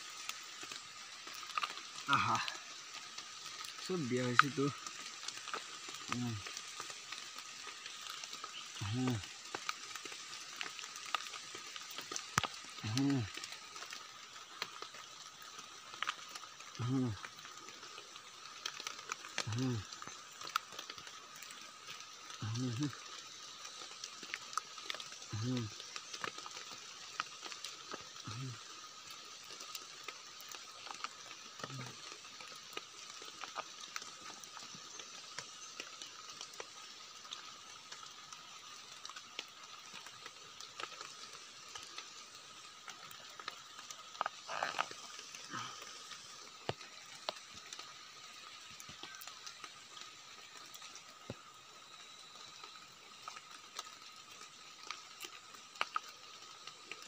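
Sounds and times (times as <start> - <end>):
insects droning: 0.0 - 57.0
soil and twigs crackling: 0.0 - 57.0.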